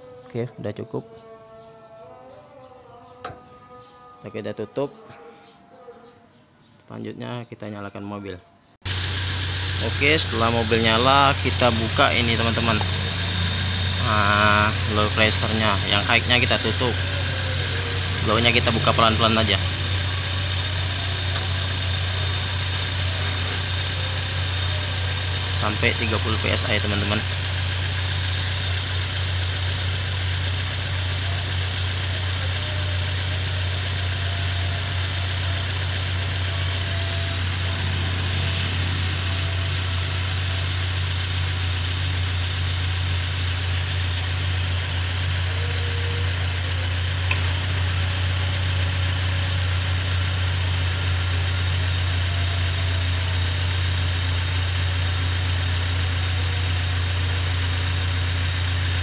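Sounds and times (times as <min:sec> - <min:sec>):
car engine idling: 0:08.8 - 0:59.0.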